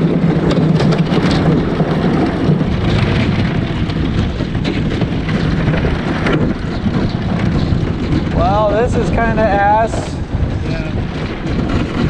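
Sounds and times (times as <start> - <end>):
ice crackling against boat hull: 0.0 - 10.2
low rumble: 0.0 - 12.0.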